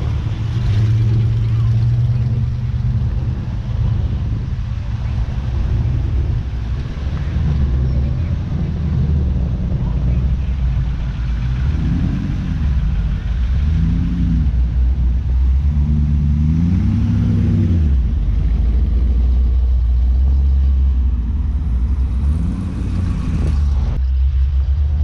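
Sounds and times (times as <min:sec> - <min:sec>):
cars driving past rumbling: 0:00.0 - 0:25.0
engines revving: 0:00.0 - 0:25.0.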